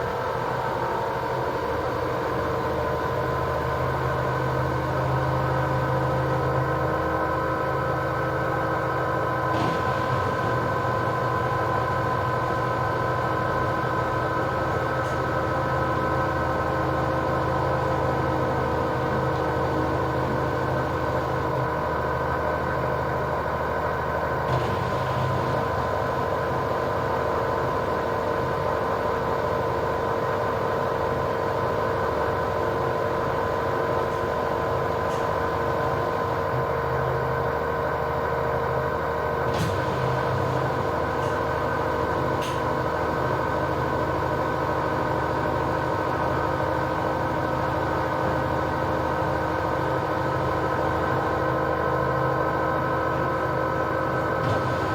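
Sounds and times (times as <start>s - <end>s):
washing machine spinning: 2.4s - 54.9s.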